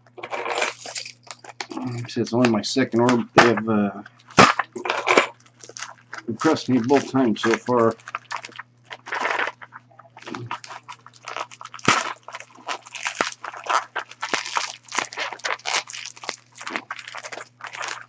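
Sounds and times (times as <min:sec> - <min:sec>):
packing wrap crinkling: 0:00.1 - 0:18.0.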